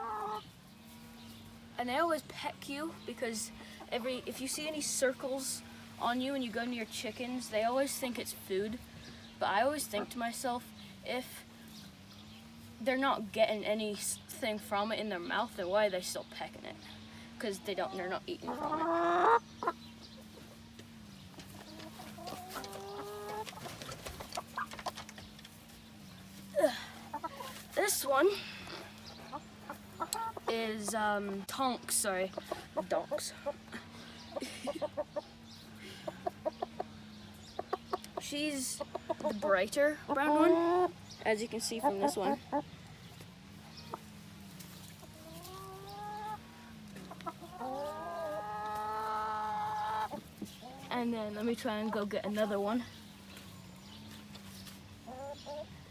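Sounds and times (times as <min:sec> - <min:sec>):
hens clucking: 0:00.0 - 0:10.8, 0:14.0 - 0:55.9.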